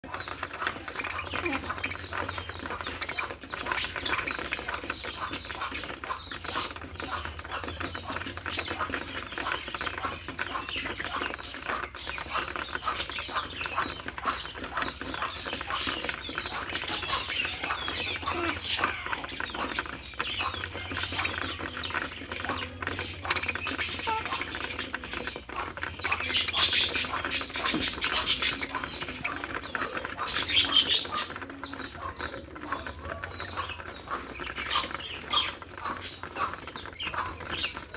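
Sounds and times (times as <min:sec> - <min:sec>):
budgerigar chattering and warbling: 0:00.0 - 0:37.9.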